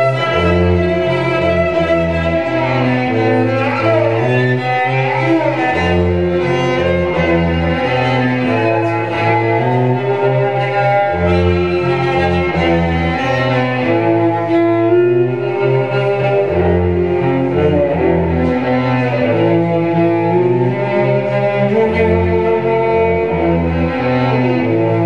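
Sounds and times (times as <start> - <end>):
cello bowed: 0.0 - 25.0.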